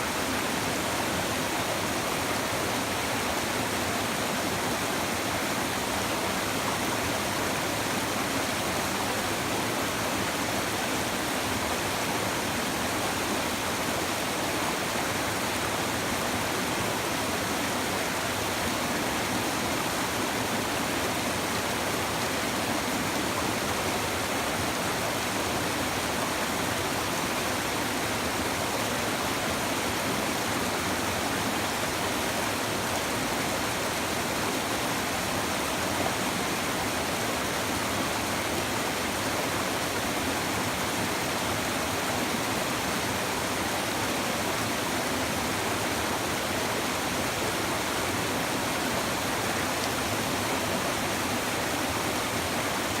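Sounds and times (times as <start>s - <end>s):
river water rushing over stones: 0.0s - 53.0s.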